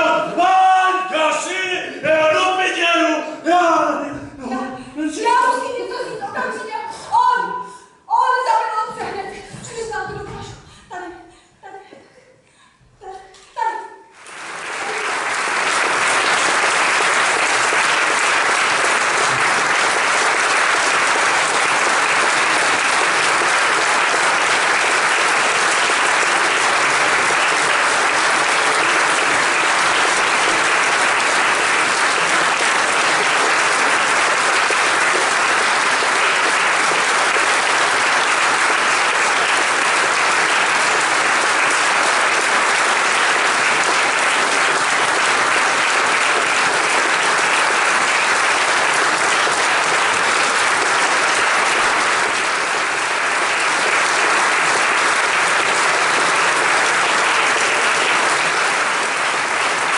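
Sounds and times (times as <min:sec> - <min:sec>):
audience applauding: 0:00.0 - 0:03.8, 0:14.2 - 0:59.9.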